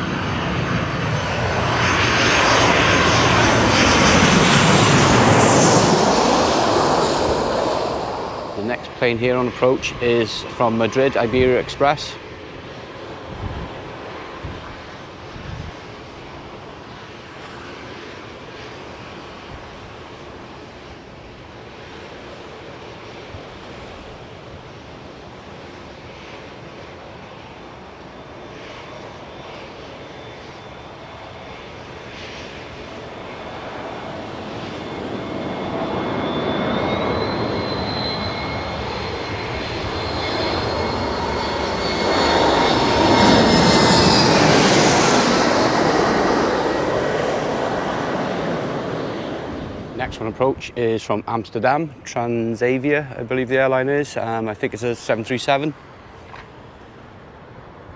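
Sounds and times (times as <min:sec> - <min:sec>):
whining jet engine tones: 0:00.0 - 0:21.0, 0:21.8 - 0:57.9
jet airliner passing: 0:00.0 - 0:57.9.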